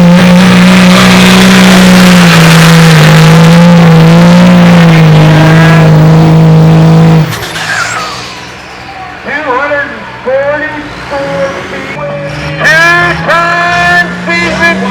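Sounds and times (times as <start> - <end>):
diesel truck engine revving: 0.0 - 14.9.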